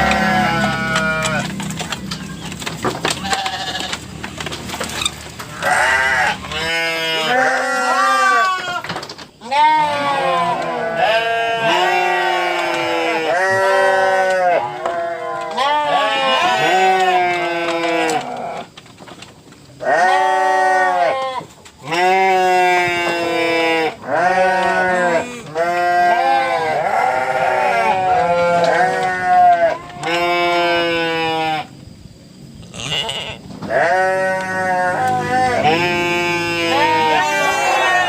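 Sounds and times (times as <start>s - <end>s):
goats bleating: 0.0s - 1.6s, 3.2s - 4.0s, 5.5s - 18.7s, 19.8s - 31.7s, 32.7s - 38.0s.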